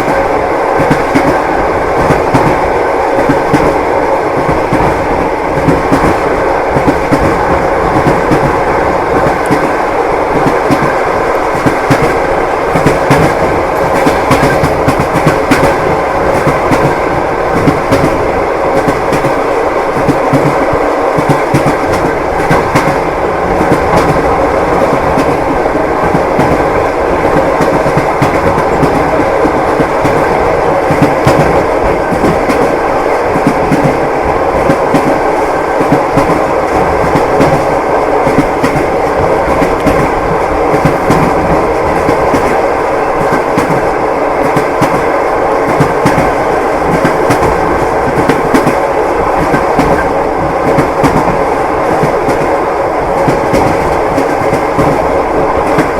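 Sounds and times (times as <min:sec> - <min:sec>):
train wheels clattering: 0:00.0 - 0:55.9.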